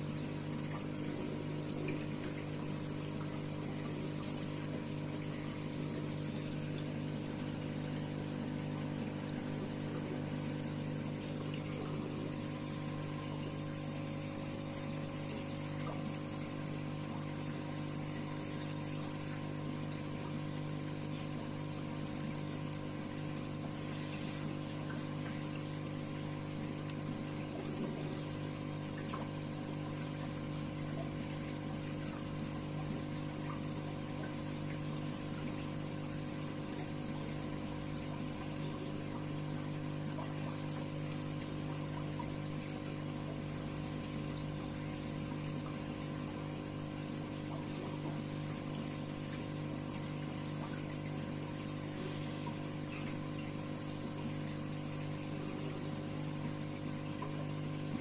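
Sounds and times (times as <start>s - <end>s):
aquarium filter pump hum: 0.0s - 58.0s
water trickling: 0.0s - 58.0s.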